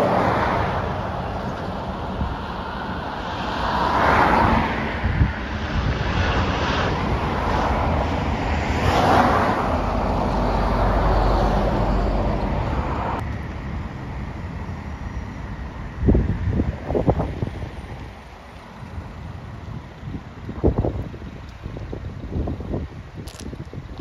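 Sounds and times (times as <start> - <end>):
vehicle noise: 0.0 - 24.0
wind buffeting microphone: 0.0 - 24.0.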